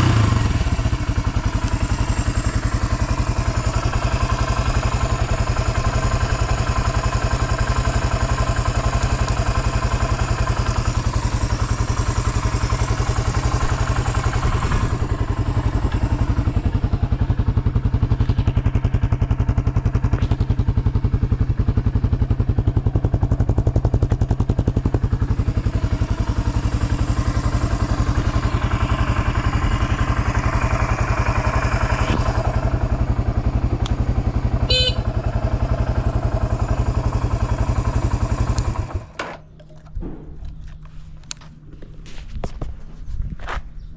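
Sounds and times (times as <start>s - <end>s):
motorcycle engine idling: 0.0s - 42.0s.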